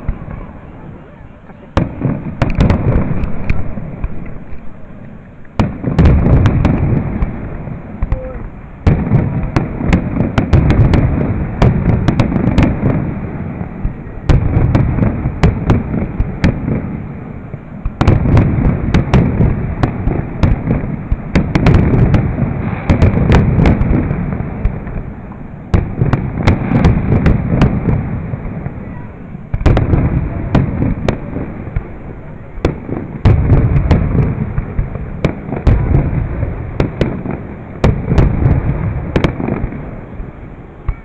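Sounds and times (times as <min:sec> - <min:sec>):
fireworks crackling pops: 0:00.0 - 0:41.0
fireworks deep booms: 0:00.0 - 0:41.0.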